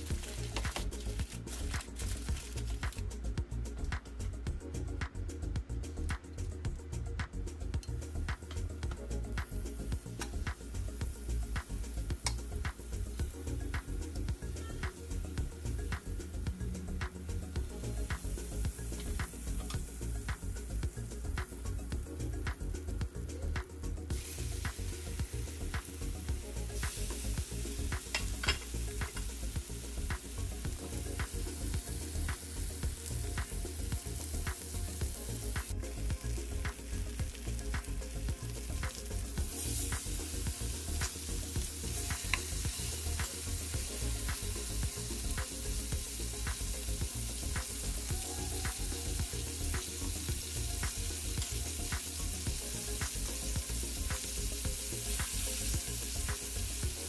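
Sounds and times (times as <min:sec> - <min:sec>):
steaks sizzling in hot oil: 0:00.0 - 0:03.1, 0:07.8 - 0:57.0.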